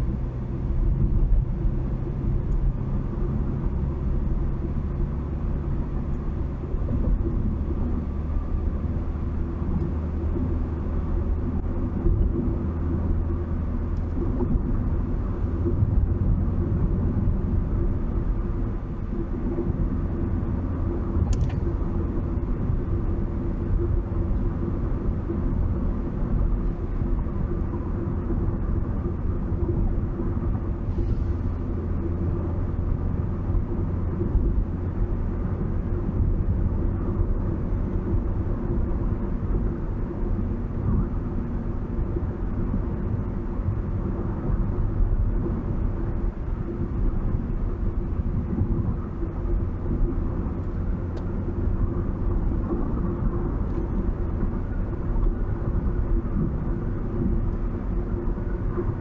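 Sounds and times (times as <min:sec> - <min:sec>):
tyre road noise: 0:00.0 - 0:59.0
vehicle engine rumble: 0:00.0 - 0:59.0.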